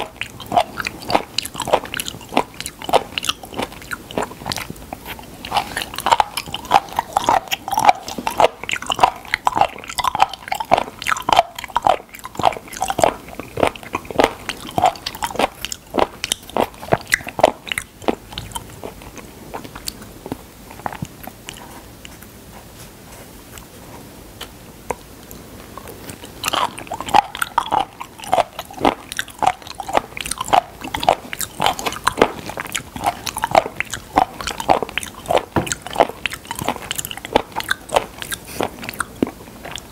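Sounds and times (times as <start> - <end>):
wet chewing and biting: 0.0 - 22.8, 24.4 - 39.9.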